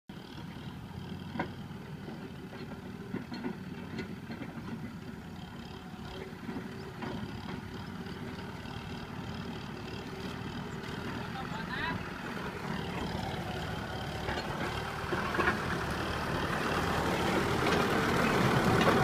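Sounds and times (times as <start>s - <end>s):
tractor diesel engine running: 0.1s - 19.0s.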